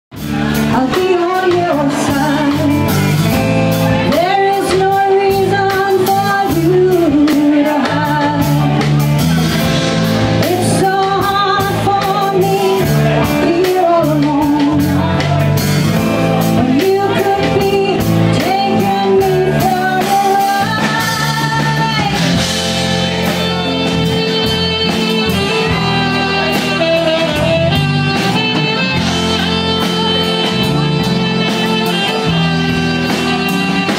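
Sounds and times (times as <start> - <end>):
guitar backing: 0.1 - 33.9
saxophone: 0.2 - 33.9
woman singing: 0.6 - 3.0, 4.0 - 9.0, 10.4 - 15.3, 16.5 - 22.5, 23.7 - 33.9.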